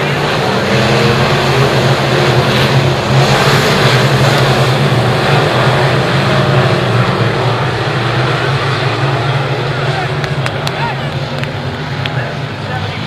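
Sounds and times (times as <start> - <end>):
race car engines roaring: 0.0 - 13.0.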